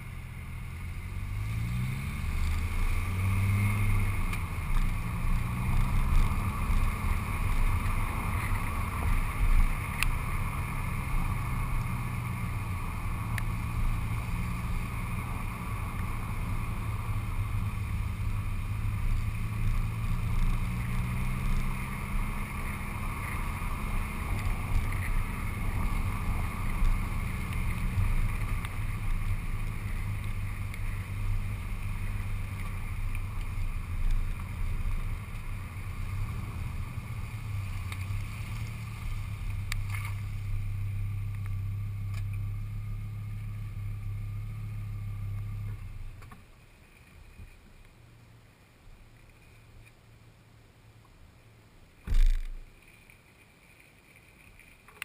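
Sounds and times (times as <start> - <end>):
car engine: 0.0 - 55.0
tyre noise on wet road: 0.0 - 55.0.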